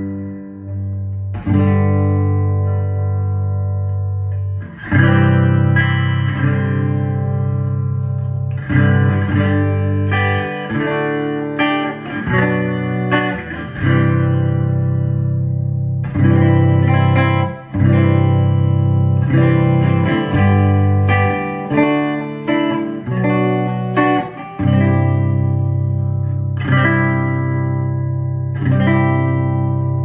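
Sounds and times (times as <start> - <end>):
guitar strumming chords: 0.0 - 30.0.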